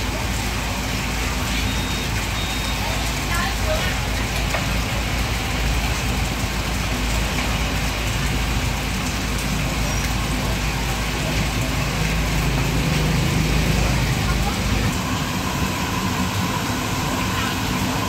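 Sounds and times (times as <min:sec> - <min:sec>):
food sizzling in hot oil: 0:00.0 - 0:06.6, 0:09.2 - 0:18.0.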